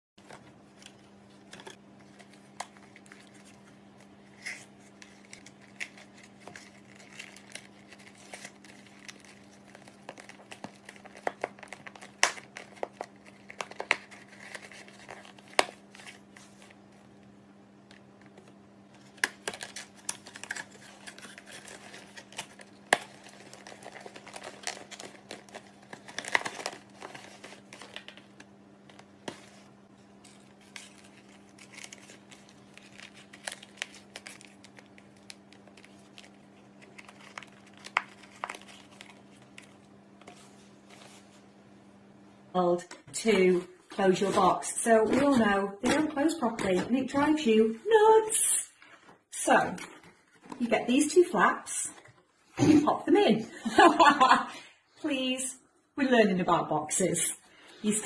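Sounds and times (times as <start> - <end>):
faint steady hum: 0.2 - 58.0.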